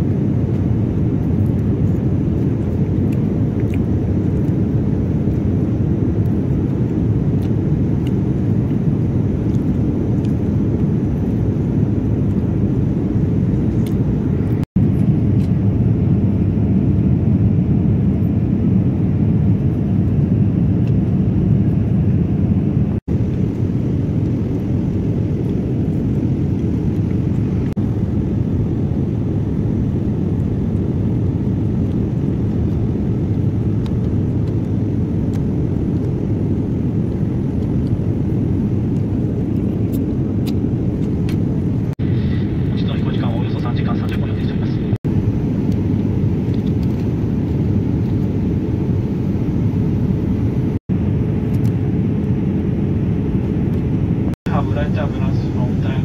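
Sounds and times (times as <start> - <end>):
jet airliner cabin noise: 0.0 - 56.0.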